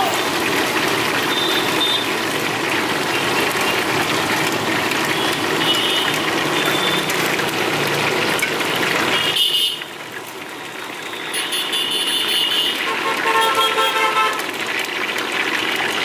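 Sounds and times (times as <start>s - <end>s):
paste sizzling in oil: 0.1s - 16.0s.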